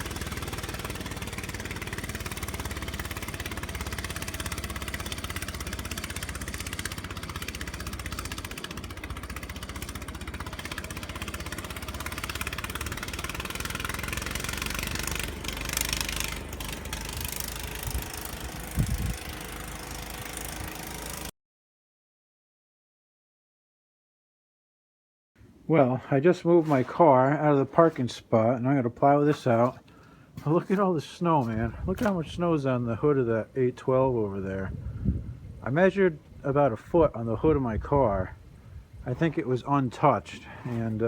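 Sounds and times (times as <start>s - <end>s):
engine running: 0.0s - 21.3s, 25.9s - 41.0s.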